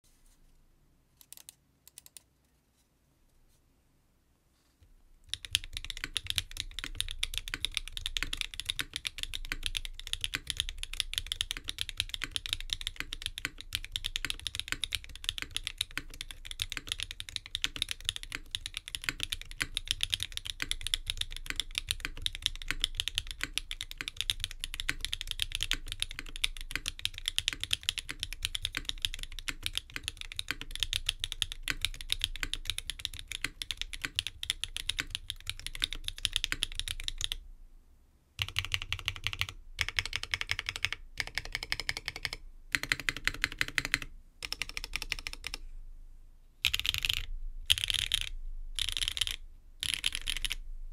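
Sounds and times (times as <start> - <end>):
fast typing on mechanical keyboard: 5.3 - 37.4, 38.4 - 45.6, 46.6 - 50.6.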